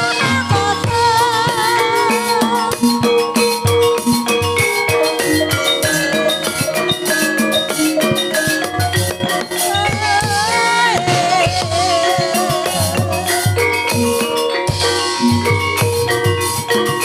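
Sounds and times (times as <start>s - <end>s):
hand drums: 0.0s - 17.0s
struck metallophone notes: 0.0s - 17.0s
wavering held melody line: 0.0s - 17.0s.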